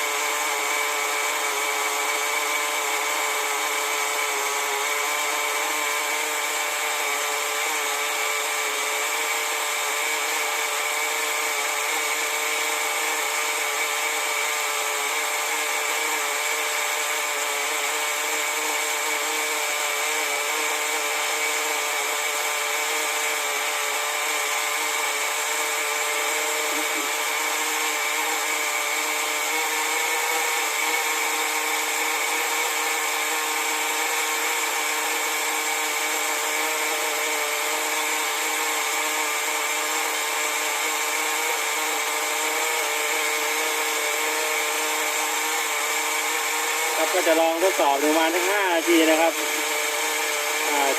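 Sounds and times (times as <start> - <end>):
model car nitro engine running: 0.0 - 50.9.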